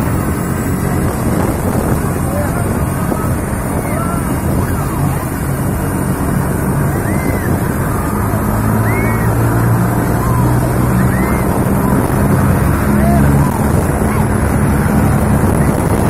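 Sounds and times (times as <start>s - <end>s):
helicopter rotor and engine: 0.0s - 16.0s
high turbine whine: 0.0s - 16.0s.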